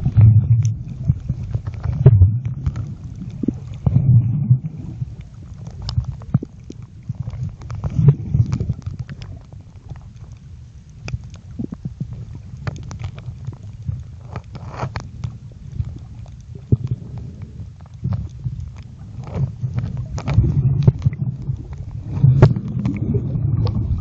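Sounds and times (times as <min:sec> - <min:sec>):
underwater clicks and crackles: 0:00.0 - 0:24.0
underwater water rumbling: 0:00.0 - 0:24.0.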